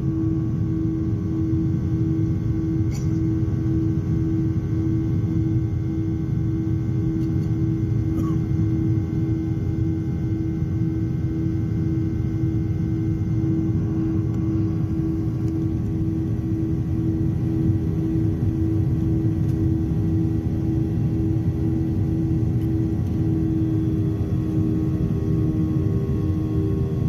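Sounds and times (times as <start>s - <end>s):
airliner cabin rumble: 0.0s - 27.0s
throbbing hum: 0.0s - 27.0s.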